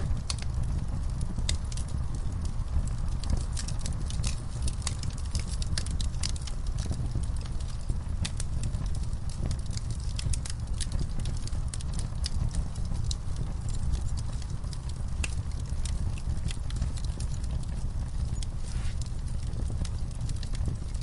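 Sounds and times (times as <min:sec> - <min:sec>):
burning wood crackling and popping: 0:00.0 - 0:21.0
flames rumbling in fireplace: 0:00.0 - 0:21.0.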